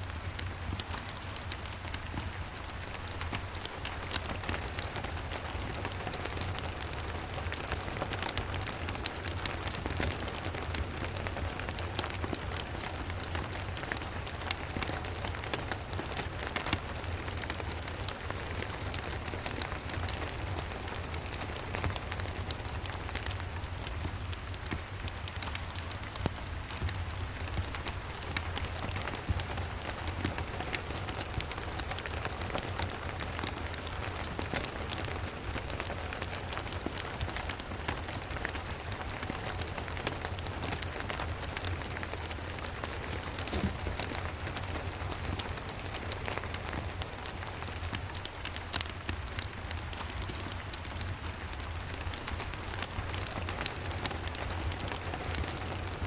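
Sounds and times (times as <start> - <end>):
rain falling: 0.0 - 56.0
wood fire crackling: 0.0 - 56.0.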